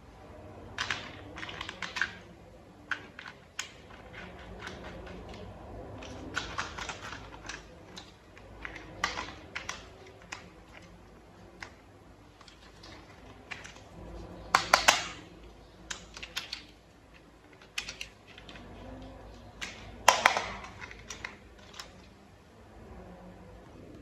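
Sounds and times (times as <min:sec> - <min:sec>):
plastic toy parts clicking: 0:00.7 - 0:22.2.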